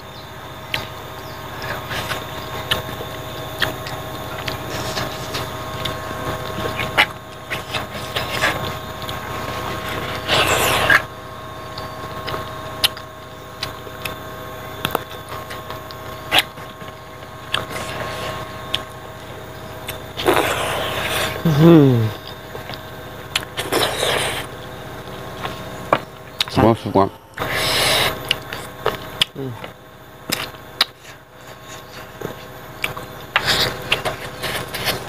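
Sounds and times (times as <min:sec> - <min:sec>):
steady background hum: 0:00.0 - 0:35.0
chewing and lip smacks: 0:00.6 - 0:21.4, 0:22.1 - 0:26.6, 0:27.3 - 0:35.0.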